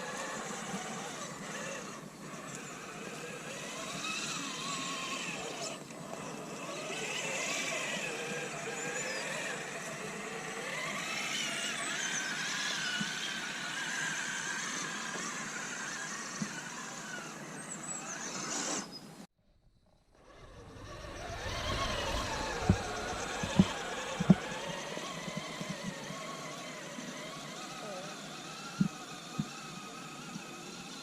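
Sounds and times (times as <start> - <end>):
electric motor whining: 0.0 - 18.9, 20.0 - 31.0.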